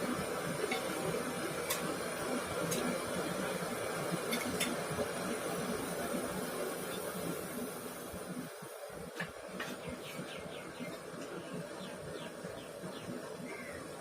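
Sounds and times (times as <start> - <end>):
prawns deep-frying in oil: 0.0 - 14.0.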